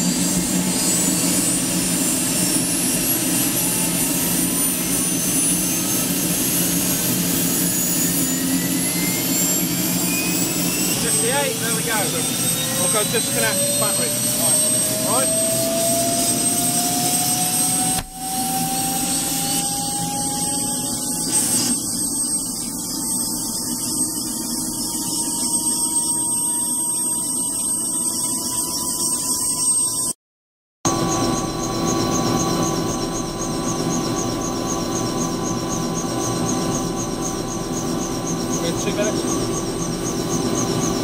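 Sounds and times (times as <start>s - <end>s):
helicopter turbine engine whine: 0.0s - 30.2s, 30.9s - 41.0s.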